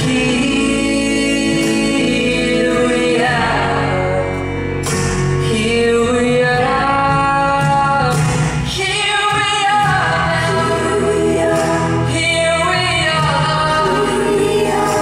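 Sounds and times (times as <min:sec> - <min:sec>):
women singing wordless notes: 0:00.0 - 0:04.8, 0:05.4 - 0:15.0
acoustic pop band music: 0:00.0 - 0:15.0.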